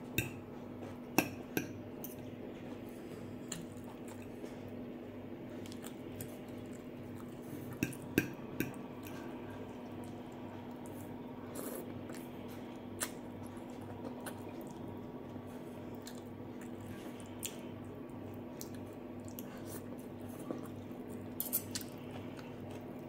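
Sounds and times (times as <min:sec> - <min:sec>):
faint steady hum: 0:00.0 - 0:23.0
soft chewing: 0:00.2 - 0:23.0.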